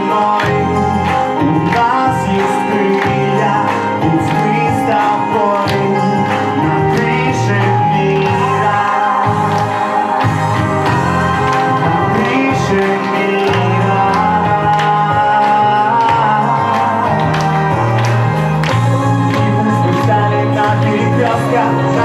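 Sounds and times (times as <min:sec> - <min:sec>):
pop-rock live band: 0:00.0 - 0:22.0.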